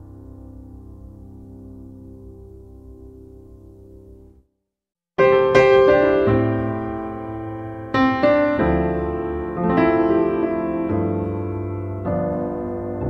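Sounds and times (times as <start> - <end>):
slow piano chords: 0.0 - 4.5, 5.2 - 13.0.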